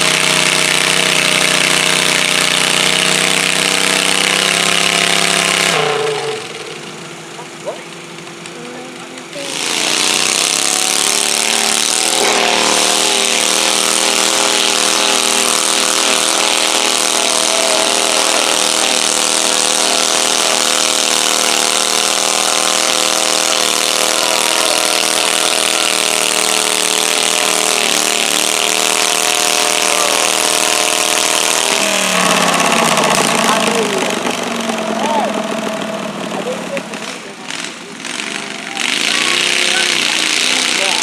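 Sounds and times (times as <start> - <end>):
tractor engine at full throttle: 0.0 - 41.0.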